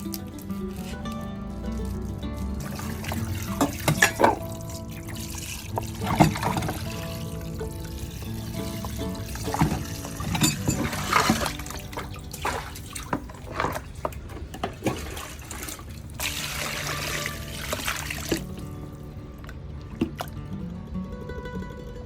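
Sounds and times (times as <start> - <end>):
water splashing and trickling: 0.0 - 20.9.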